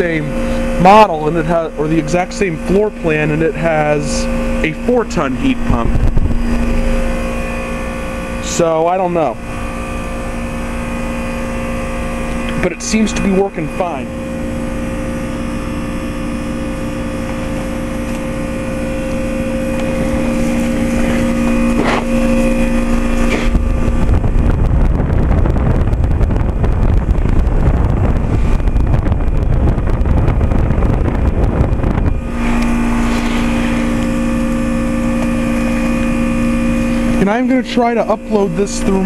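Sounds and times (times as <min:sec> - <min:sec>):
compressor hum: 0:00.0 - 0:39.0
fan air buffeting microphone: 0:00.0 - 0:39.0.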